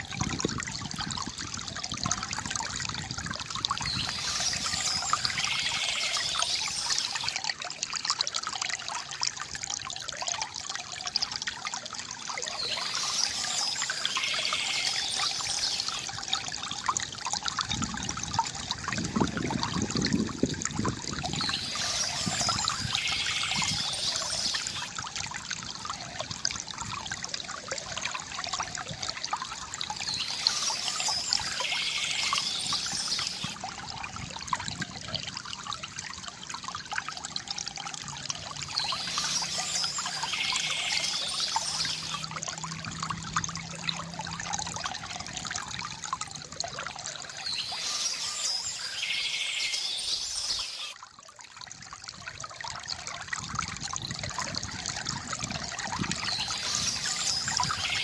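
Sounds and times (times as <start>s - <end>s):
fountain water trickling: 0.0s - 58.0s
water gurgle: 0.0s - 58.0s.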